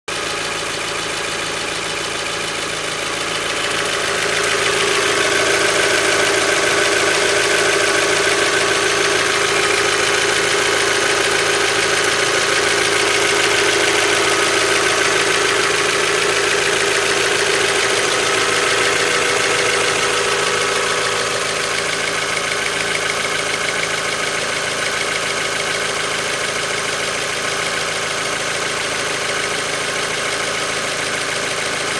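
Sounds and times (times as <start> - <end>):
car engine idling: 0.1 - 31.9
fast light engine ticking: 0.1 - 31.9.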